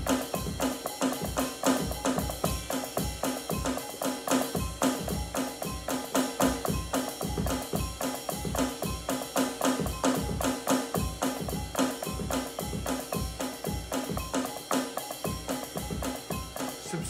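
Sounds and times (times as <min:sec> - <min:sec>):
drum kit groove: 0:00.0 - 0:17.0.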